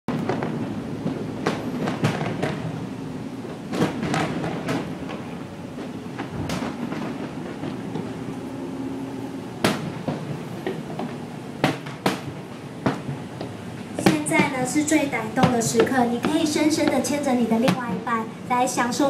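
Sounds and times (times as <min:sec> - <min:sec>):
steady low rumble: 0:00.1 - 0:18.9
fireworks banging: 0:00.1 - 0:19.0.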